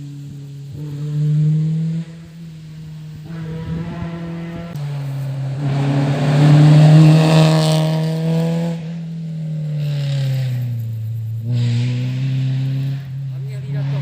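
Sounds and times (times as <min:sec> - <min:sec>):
rally car passing at speed: 0:00.2 - 0:14.0.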